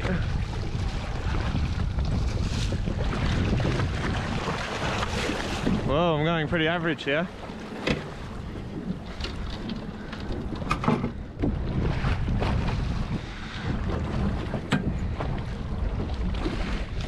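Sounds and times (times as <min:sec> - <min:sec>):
water slapping: 0:00.0 - 0:17.0
wind buffeting microphone: 0:00.0 - 0:17.0.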